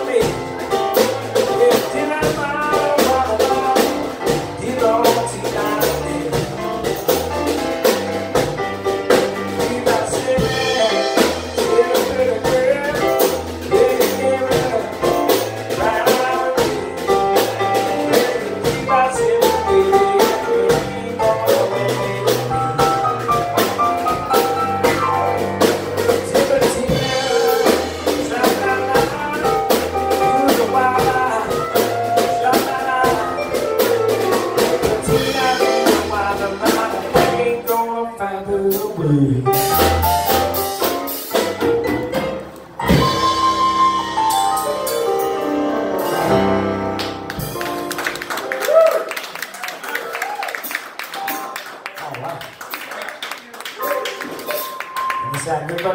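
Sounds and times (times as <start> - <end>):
drum kit: 0.0 - 52.7, 53.8 - 55.9
rhythm and blues piano: 0.0 - 55.9.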